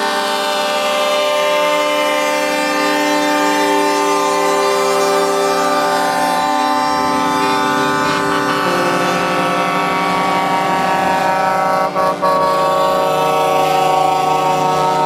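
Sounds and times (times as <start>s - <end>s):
truck air horns blaring: 0.0s - 15.0s.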